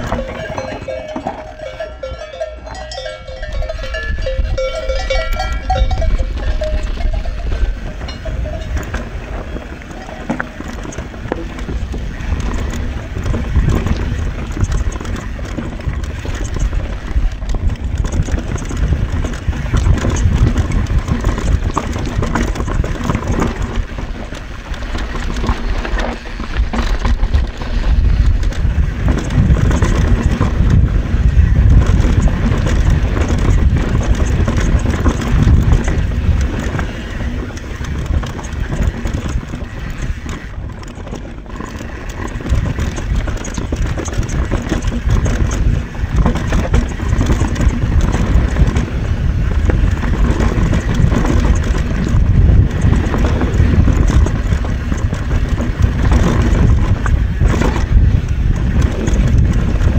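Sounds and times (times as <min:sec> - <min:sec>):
bike knocks and rattles: 0:00.0 - 0:59.9
tyre roar over dirt and rock: 0:00.0 - 0:59.9
wind rush on microphone: 0:00.0 - 0:59.9.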